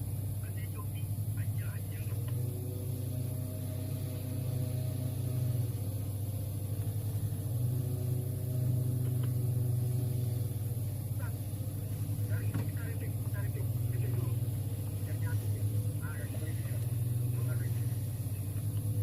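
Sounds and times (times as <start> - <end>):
diesel engine rumble: 0.0 - 19.0
faint drifting tones: 0.0 - 19.0.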